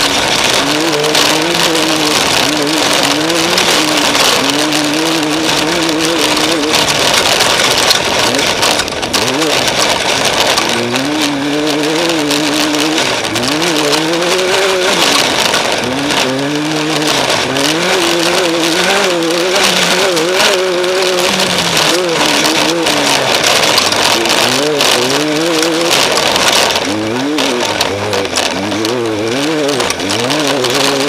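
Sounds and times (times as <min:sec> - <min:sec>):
race engine revving: 0:00.0 - 0:31.0
steady rushing noise: 0:00.0 - 0:31.0.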